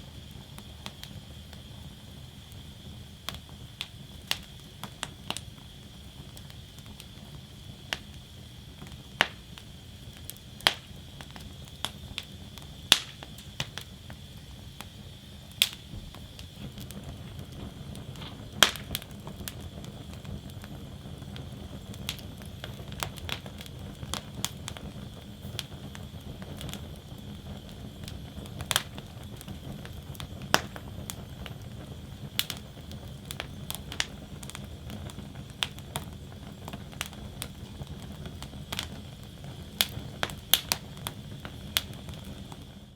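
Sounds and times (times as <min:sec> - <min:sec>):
low rumble of flame: 0:00.0 - 0:42.9
wood fire crackling: 0:00.0 - 0:42.9.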